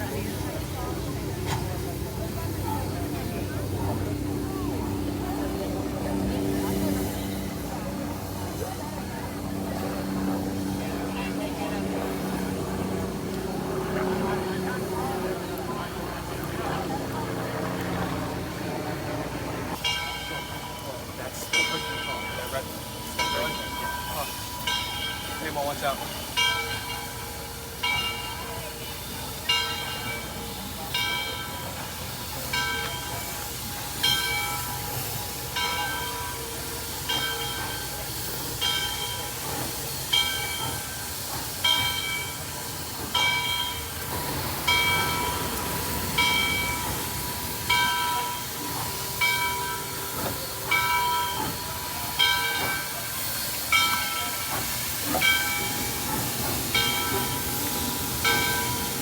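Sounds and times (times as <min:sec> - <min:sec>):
steam hissing: 0:00.0 - 0:16.0, 0:19.7 - 0:59.0
locomotive bell ringing: 0:00.0 - 0:59.0.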